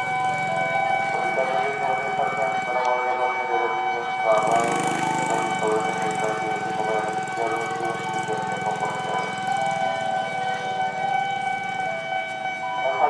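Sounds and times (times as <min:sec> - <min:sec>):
railroad crossing bell: 0:00.0 - 0:13.0.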